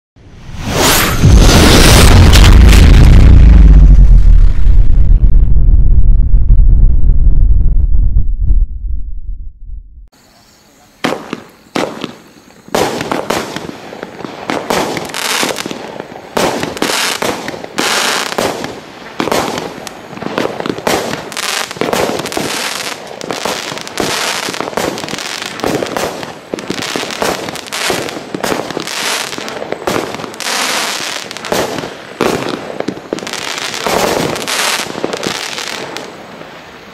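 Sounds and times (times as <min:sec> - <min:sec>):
firework bangs: 0:00.5 - 0:07.0, 0:11.0 - 0:36.9.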